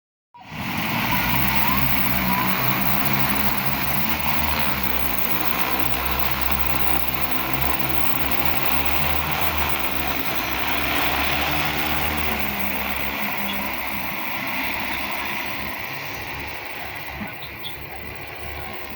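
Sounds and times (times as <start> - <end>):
drone propellers buzzing: 0.4 - 18.9.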